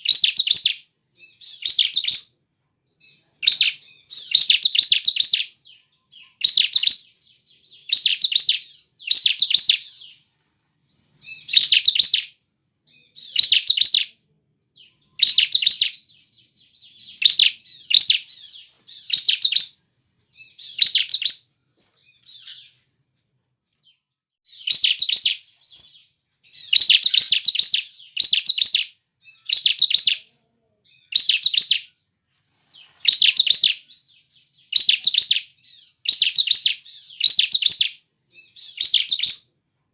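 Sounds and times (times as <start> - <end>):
bird singing rattling phrases: 0.0 - 39.5.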